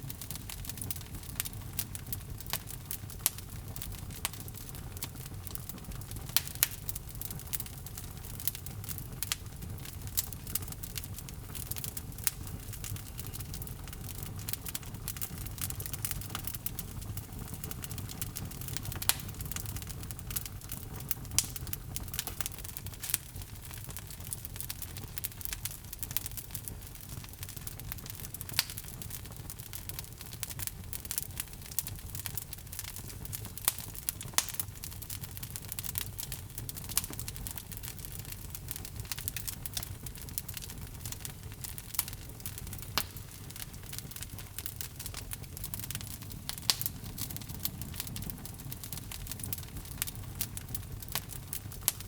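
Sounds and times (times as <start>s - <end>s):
fire crackles and pops: 0.0s - 52.0s
low rush of flame: 0.0s - 52.0s.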